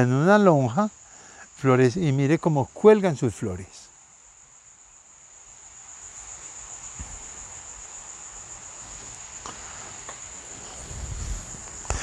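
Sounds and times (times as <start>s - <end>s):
faint rustling of plants: 0.0s - 12.0s
high-pitched insect trill: 0.0s - 12.0s.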